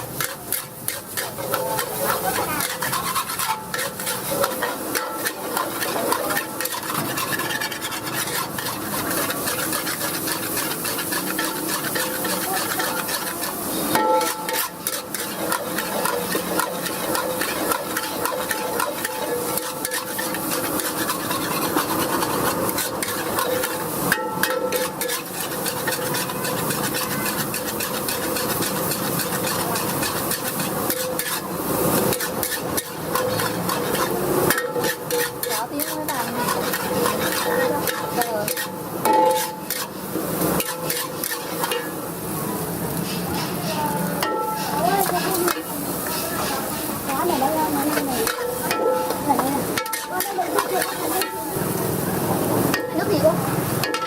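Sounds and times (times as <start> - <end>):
food sizzling: 0.0 - 54.0
metal spatula scraping wok: 0.0 - 54.0.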